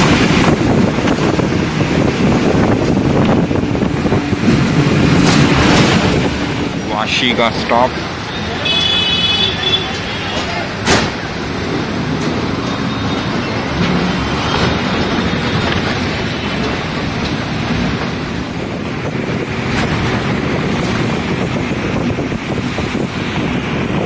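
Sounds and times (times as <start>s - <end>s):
bus running in heavy rain: 0.0s - 24.0s.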